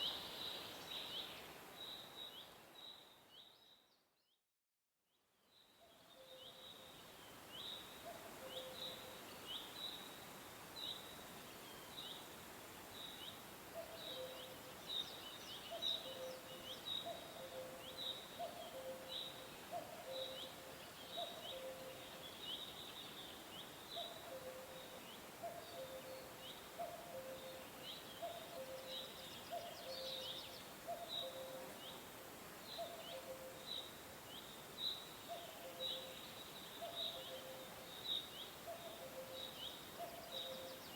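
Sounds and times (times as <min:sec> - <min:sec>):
steady background hiss: 0:00.0 - 0:03.6, 0:05.4 - 0:40.9.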